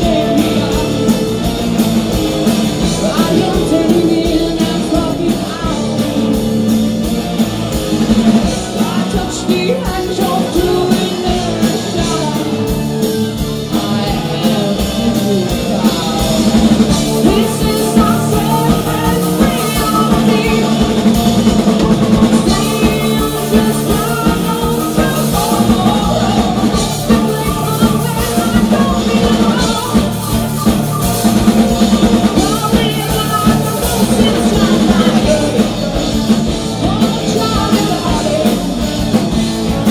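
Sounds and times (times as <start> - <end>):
woman singing lead: 0.0 - 7.3, 8.0 - 39.9
live rock band playing: 0.0 - 39.9.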